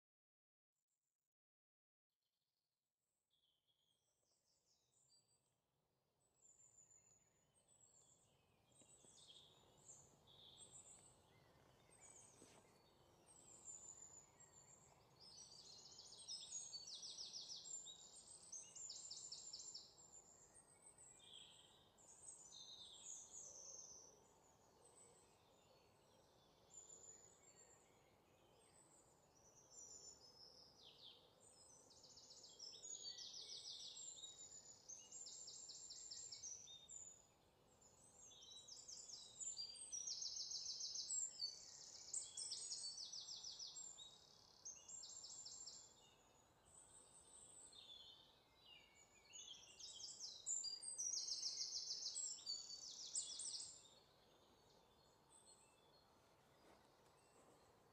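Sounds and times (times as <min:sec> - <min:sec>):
faint outdoor hiss: 0:06.2 - 0:57.9
songbirds singing: 0:06.3 - 0:57.9.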